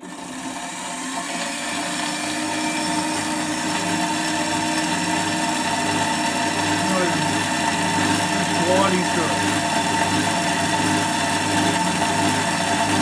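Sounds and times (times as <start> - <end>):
bandsaw cutting steel: 0.0 - 13.0.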